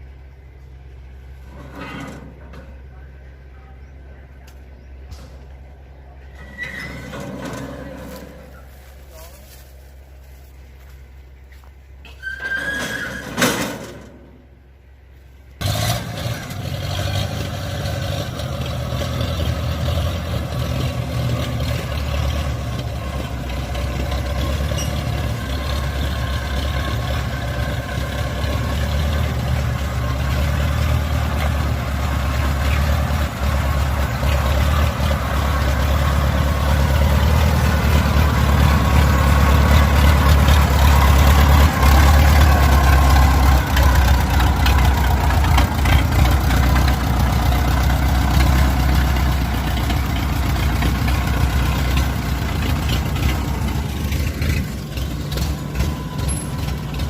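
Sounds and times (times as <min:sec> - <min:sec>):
combine harvester diesel engine: 0:00.0 - 0:57.0.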